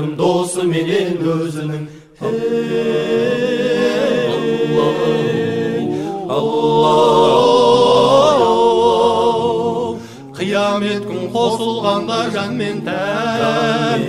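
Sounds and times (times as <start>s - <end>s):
layered voices singing wordlessly: 0.0s - 14.0s.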